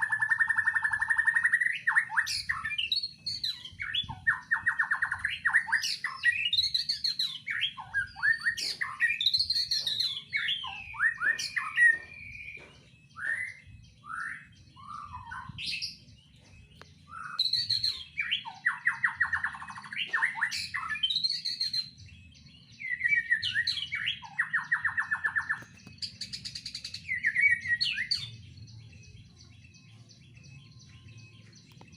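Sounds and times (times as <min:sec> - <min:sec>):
songbird singing varied song: 0:00.0 - 0:31.9.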